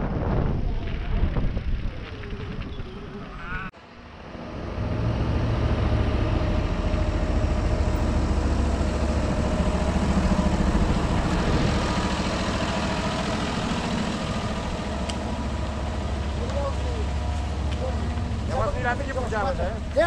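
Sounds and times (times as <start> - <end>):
vehicle engine running: 3.8 - 20.0.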